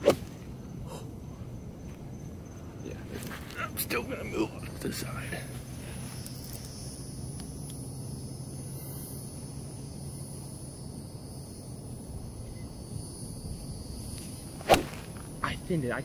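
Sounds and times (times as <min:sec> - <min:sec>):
high-pitched insect trilling: 0:01.8 - 0:16.0.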